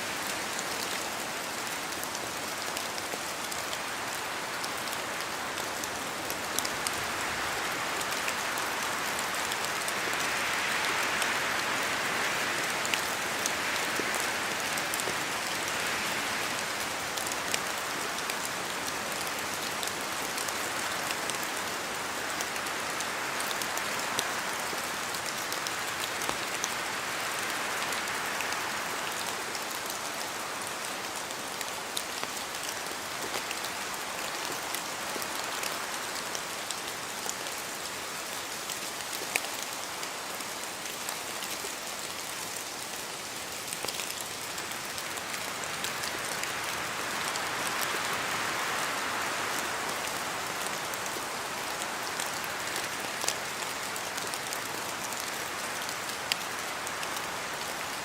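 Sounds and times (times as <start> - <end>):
rain falling through trees: 0.0 - 58.0
wind through leaves: 0.0 - 58.0.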